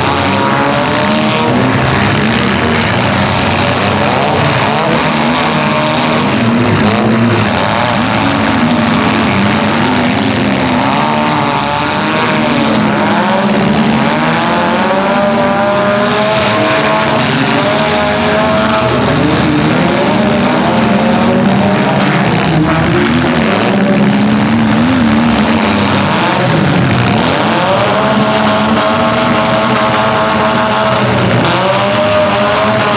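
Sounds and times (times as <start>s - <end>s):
car engines revving hard: 0.0s - 32.9s.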